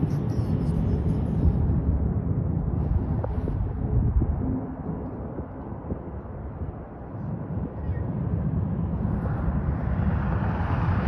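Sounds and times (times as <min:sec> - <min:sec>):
car road and wind noise: 0:00.0 - 0:11.0.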